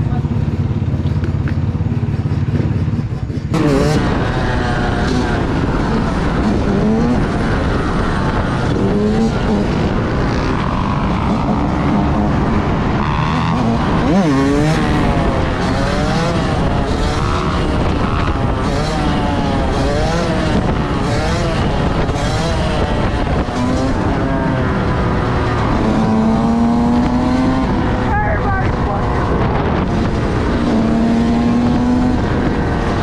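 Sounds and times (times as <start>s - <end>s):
vehicle engines revving: 0.0s - 33.0s.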